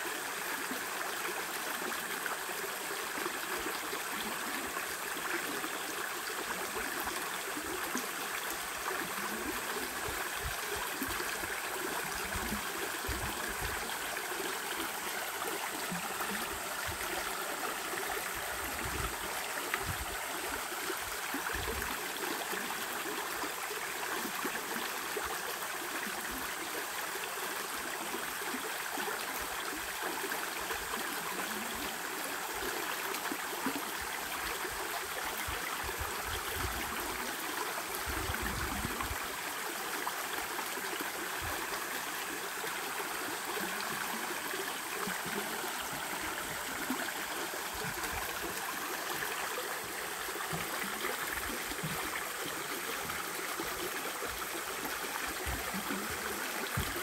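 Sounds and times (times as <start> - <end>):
stream rushing water: 0.0 - 57.0.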